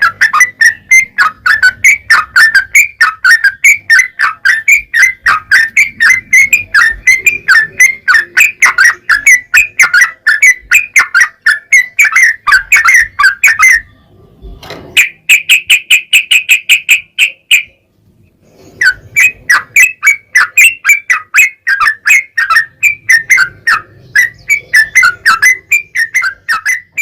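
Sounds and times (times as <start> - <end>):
bird singing fast chirping runs: 0.0 - 13.9, 18.5 - 27.0.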